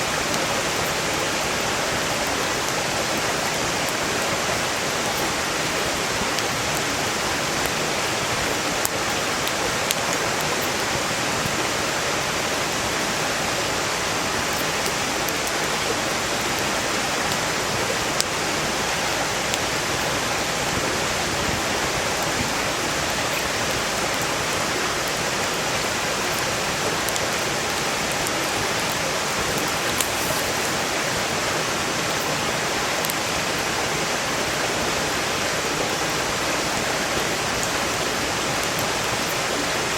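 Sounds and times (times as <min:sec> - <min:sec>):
campfire crackles: 0:00.0 - 0:39.9
stream rushing over rocks: 0:00.0 - 0:39.9.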